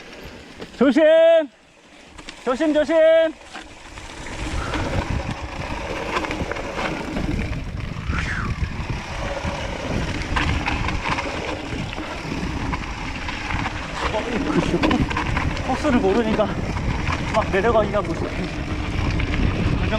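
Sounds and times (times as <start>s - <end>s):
bike tyres rumbling over rough trail: 0.0s - 19.9s
bike knocking and rattling: 2.0s - 8.0s, 8.7s - 19.9s
wind on microphone: 3.9s - 19.9s.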